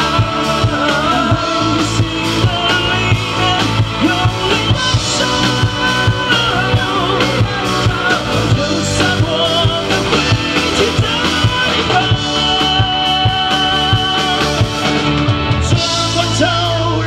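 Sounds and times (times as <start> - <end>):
wavering lead melody: 0.0 - 16.8
drum kit beat: 0.0 - 17.0
electric guitar: 0.0 - 17.0.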